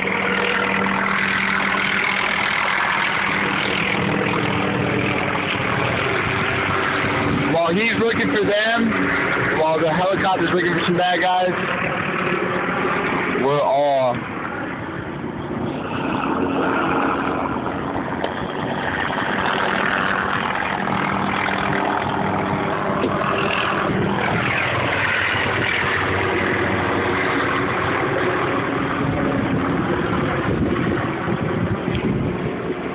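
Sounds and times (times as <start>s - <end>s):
engine drone: 0.0s - 32.9s.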